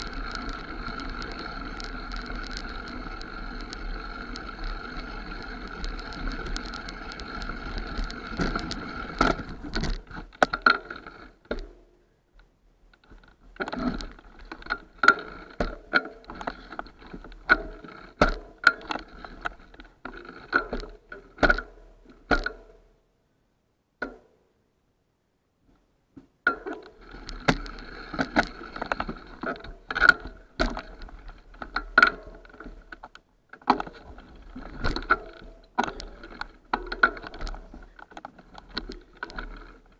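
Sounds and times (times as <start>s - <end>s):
bike rattling over bumps: 0.0s - 11.8s, 13.0s - 22.8s, 26.5s - 39.9s.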